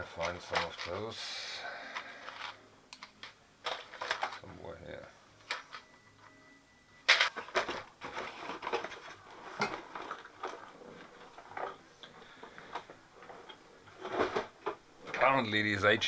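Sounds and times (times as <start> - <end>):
small hard objects clattering: 0.0 - 4.5, 7.1 - 16.0.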